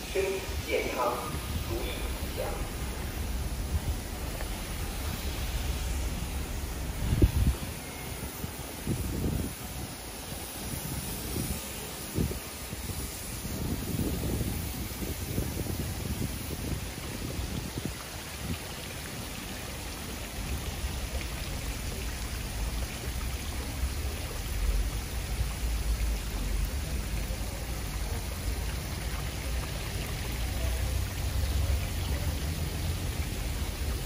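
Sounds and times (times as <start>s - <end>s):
hiss of running water: 0.0s - 34.0s.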